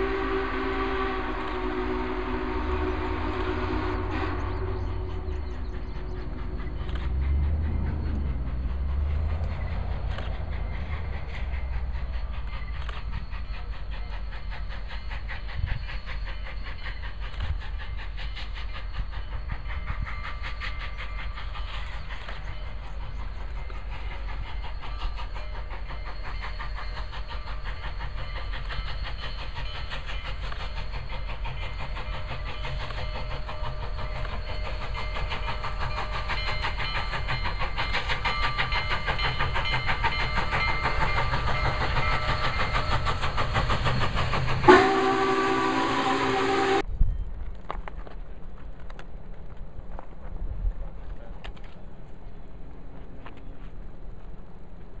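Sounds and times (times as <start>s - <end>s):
steam locomotive rumble and beat: 0.0s - 55.0s.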